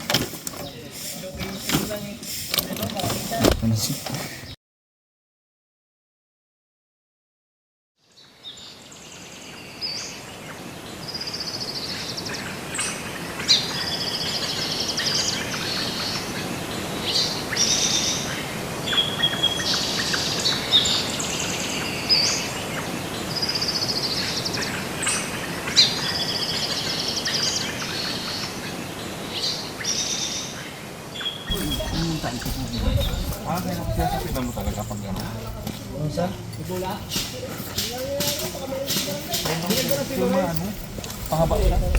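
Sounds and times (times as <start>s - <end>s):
birds chirping and calling: 0.0s - 4.6s, 8.2s - 41.9s.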